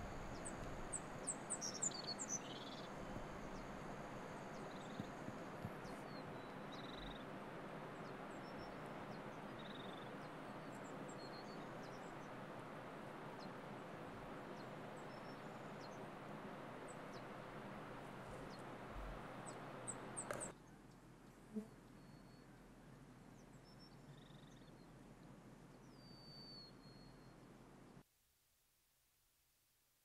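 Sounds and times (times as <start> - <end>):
outdoor ambient hiss: 0.0 - 30.0.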